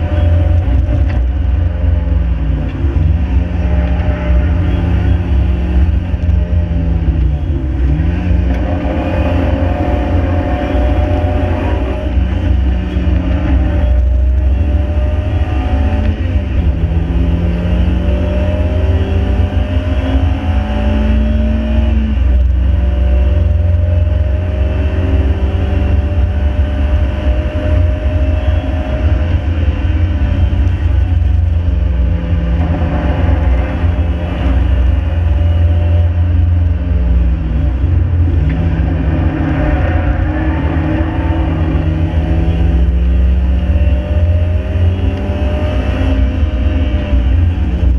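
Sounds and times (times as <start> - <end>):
car engine running hard: 0.0 - 47.9
road and wind noise: 0.0 - 47.9.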